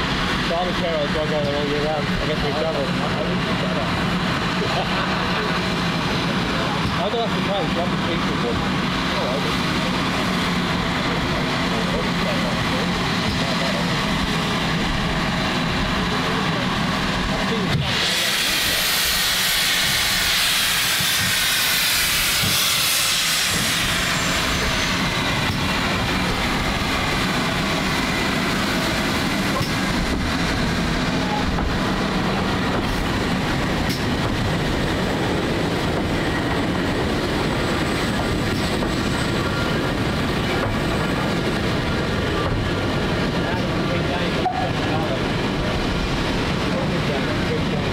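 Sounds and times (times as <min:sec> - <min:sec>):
locomotive rumbling on rails: 0:00.0 - 0:47.9
steam hissing: 0:00.0 - 0:47.9.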